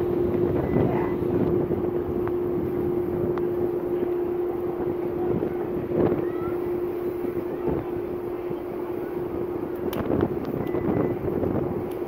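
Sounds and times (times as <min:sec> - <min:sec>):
ship hum: 0:00.0 - 0:12.0
wind buffeting microphone: 0:00.0 - 0:12.0.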